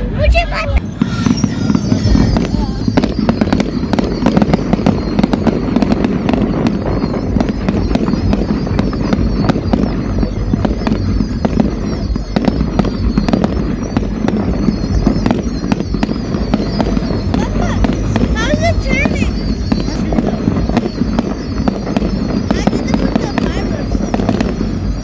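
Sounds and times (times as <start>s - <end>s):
fireworks crackling and popping: 0.0s - 25.0s
low rumble: 0.0s - 25.0s.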